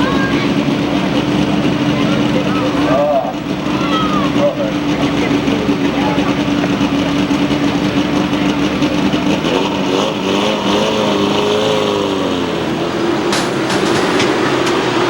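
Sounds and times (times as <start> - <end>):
race truck engines running: 0.0 - 15.0.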